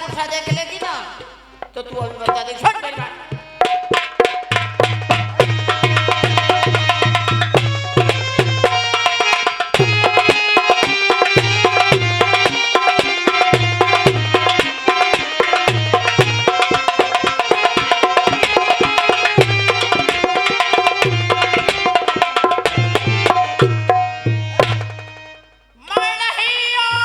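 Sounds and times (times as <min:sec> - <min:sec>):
hand drum fast rhythm: 0:00.0 - 0:25.1.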